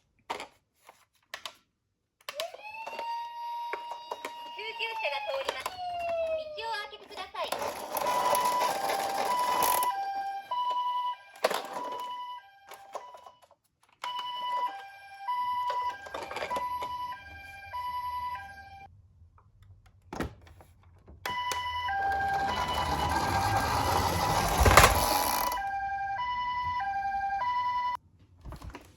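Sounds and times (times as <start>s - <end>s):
toy electronic two-tone siren: 2.3s - 18.9s, 21.3s - 28.0s.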